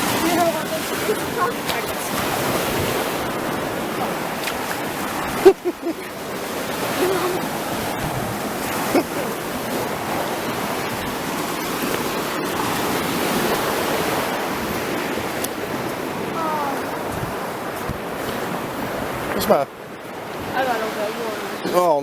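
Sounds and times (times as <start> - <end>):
sea surf washing on shore: 0.0 - 22.0.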